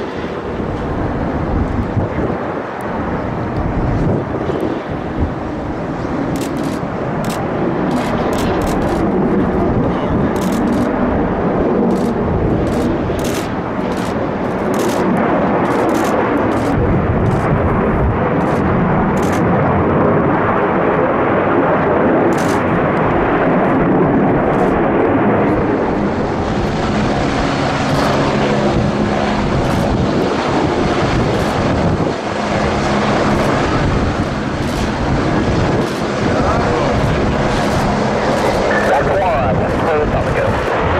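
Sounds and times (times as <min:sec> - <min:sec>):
jet engine crackles: 0:00.0 - 0:40.9
jet engine roar at takeoff: 0:00.0 - 0:40.9.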